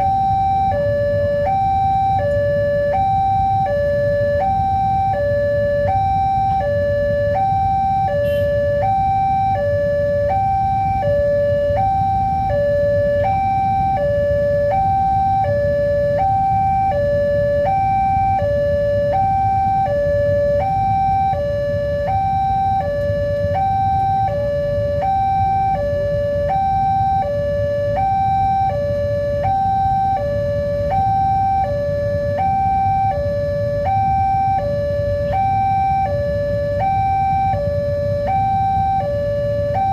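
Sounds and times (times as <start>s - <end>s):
continuous low rumble: 0.0s - 39.9s
level crossing two-tone alarm: 0.0s - 39.9s.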